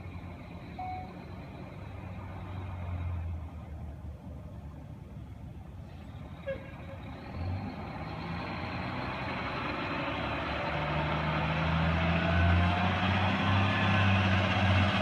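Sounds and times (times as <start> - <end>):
fire truck engine: 0.0 - 15.0.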